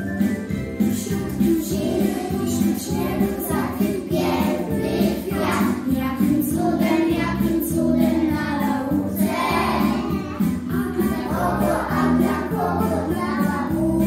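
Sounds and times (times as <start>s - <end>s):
instrumental accompaniment with beat: 0.0s - 14.0s
children singing: 1.0s - 14.0s.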